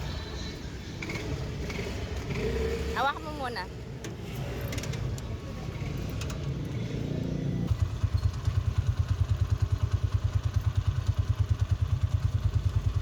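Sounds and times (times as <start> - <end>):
small motorcycle engine idling: 0.0 - 3.0, 3.9 - 13.0.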